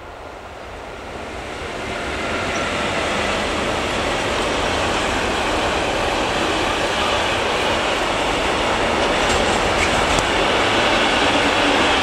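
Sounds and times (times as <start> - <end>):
freight train rolling past: 0.0 - 12.0
wheels on rails: 1.8 - 12.0.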